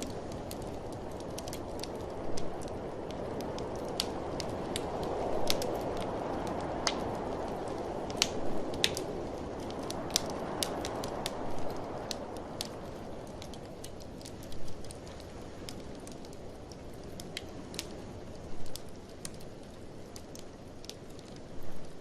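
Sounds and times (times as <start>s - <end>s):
blizzard wind rushing: 0.0s - 19.0s
wood fire crackling: 0.0s - 22.0s.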